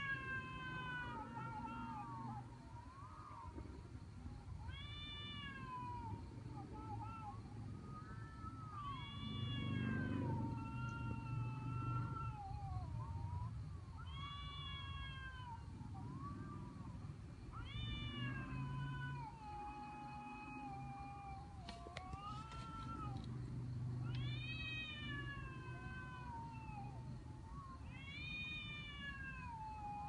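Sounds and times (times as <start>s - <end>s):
cats yowling in a fight: 0.0s - 30.0s.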